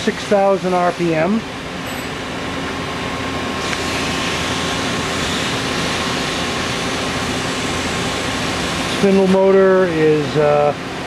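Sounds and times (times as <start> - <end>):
machine whirring: 0.0 - 10.4.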